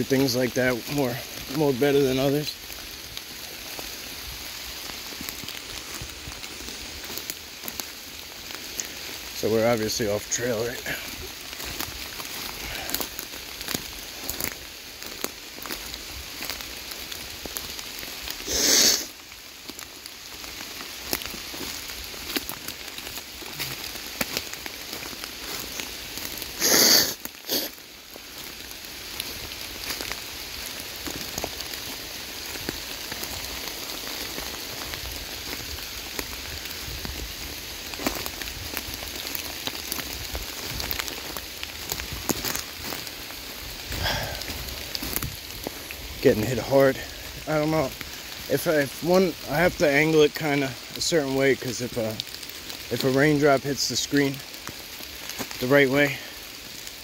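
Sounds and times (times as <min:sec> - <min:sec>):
heavy rain falling: 0:00.0 - 0:57.0
raindrops ticking on phone: 0:00.2 - 0:57.0.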